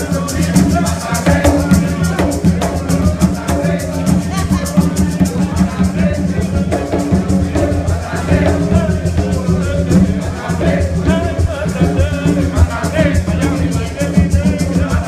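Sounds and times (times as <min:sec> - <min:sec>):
hand drums in fast rhythm: 0:00.0 - 0:15.0
voices singing: 0:00.0 - 0:15.0.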